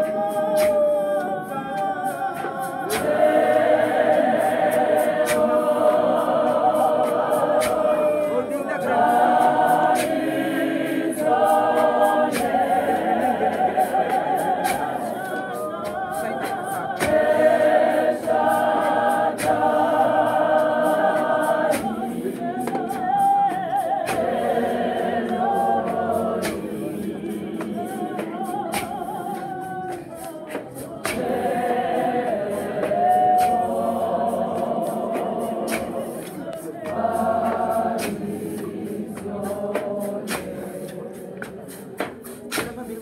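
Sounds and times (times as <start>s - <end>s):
choir singing in harmony: 0.0s - 43.0s
sharp percussive beats: 0.0s - 43.0s.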